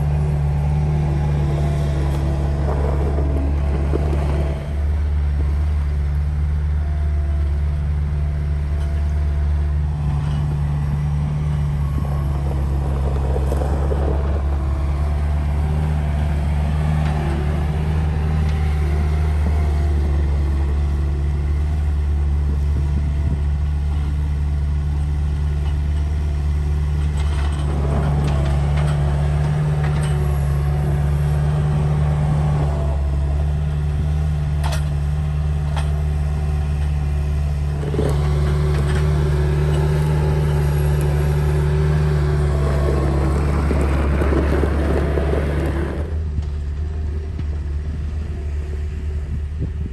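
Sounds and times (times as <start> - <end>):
loader diesel engine running: 0.0 - 49.9.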